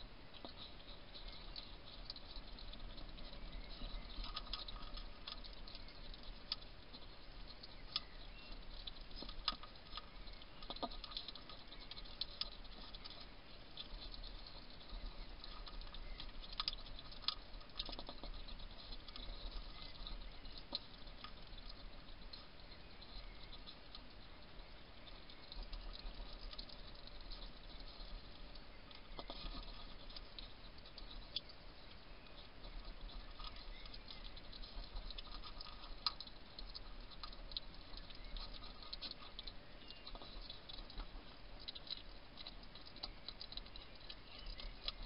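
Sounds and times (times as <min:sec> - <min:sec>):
faint hiss: 0:00.0 - 0:45.0
hedgehog crunching food pellets: 0:00.0 - 0:45.0.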